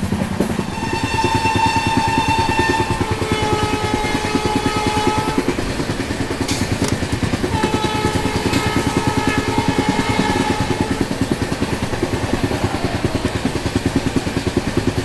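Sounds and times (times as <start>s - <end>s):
train wheels clattering on track: 0.0s - 15.0s.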